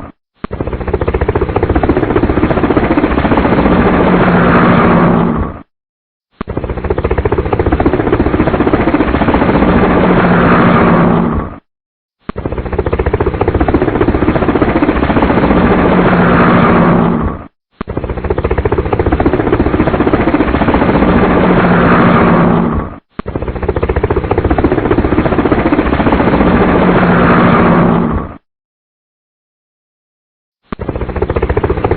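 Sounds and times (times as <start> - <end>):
helicopter engine drone: 0.0 - 5.7, 6.4 - 11.7, 12.4 - 28.4, 30.7 - 31.9
helicopter rotor chop: 0.0 - 5.7, 6.3 - 11.7, 12.3 - 28.5, 30.7 - 31.9.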